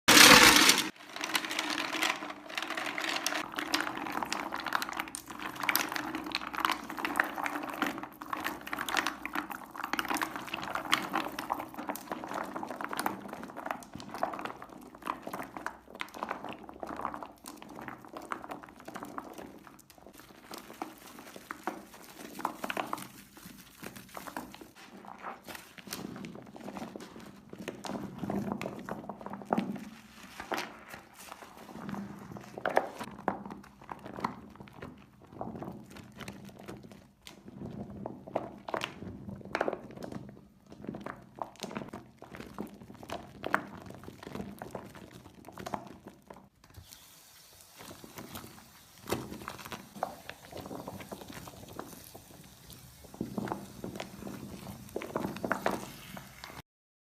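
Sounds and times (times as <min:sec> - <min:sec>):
soap bars crackling and crunching: 0:00.1 - 0:47.0, 0:47.8 - 0:56.6.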